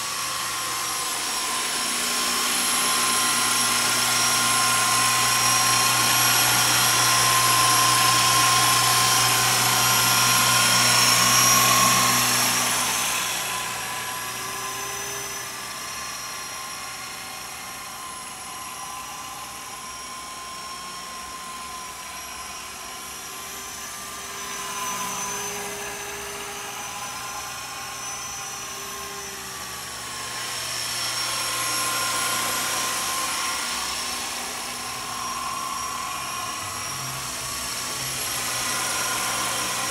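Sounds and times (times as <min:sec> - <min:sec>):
rc helicopter whine: 0:00.0 - 0:39.9.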